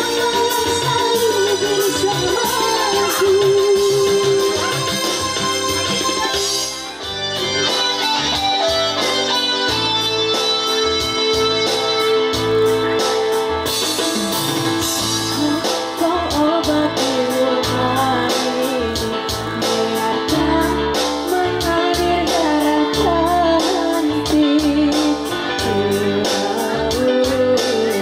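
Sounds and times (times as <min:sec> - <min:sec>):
person singing melody: 0:00.0 - 0:14.1, 0:15.0 - 0:28.0
keyboard and guitar song: 0:00.0 - 0:28.0.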